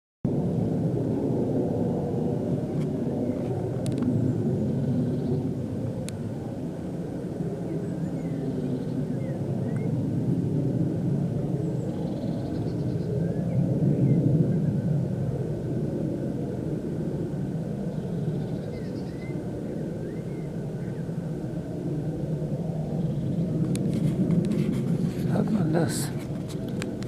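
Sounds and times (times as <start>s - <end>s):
aircraft rumble overhead: 0.3s - 27.0s.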